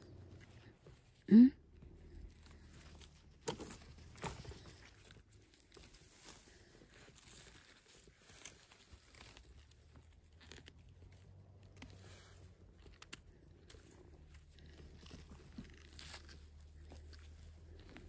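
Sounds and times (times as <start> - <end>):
crunching and rustling of dry grass: 0.0 - 18.0.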